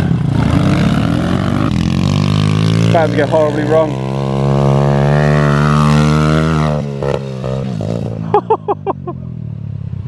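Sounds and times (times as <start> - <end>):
minibike engine revving: 0.0 - 9.0.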